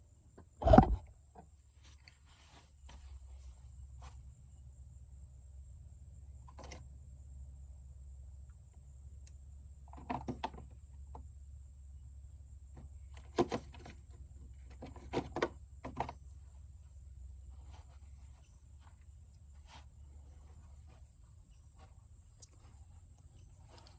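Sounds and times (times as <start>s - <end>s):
low steady hum: 0.0s - 23.9s.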